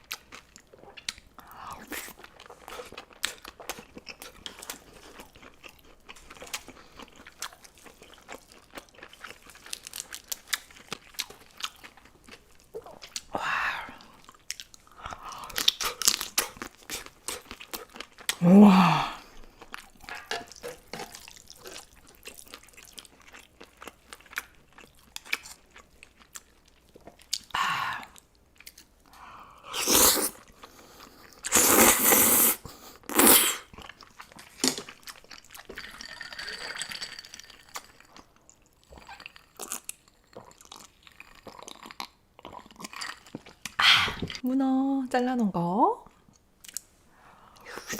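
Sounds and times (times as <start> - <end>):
person chewing: 0.0 - 44.4, 46.3 - 46.9.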